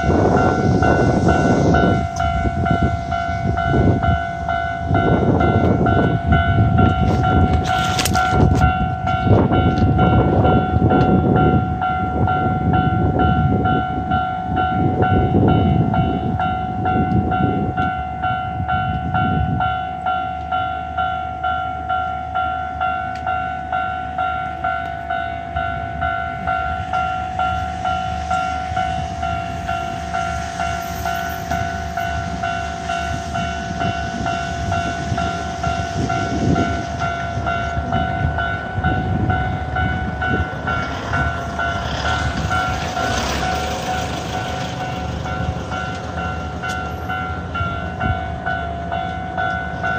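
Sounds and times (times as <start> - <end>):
level crossing alarm ringing: 0.0 - 49.9.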